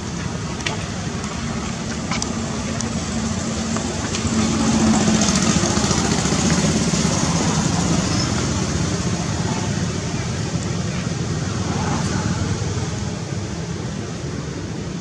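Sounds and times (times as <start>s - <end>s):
motor vehicle engine running: 0.0s - 13.6s.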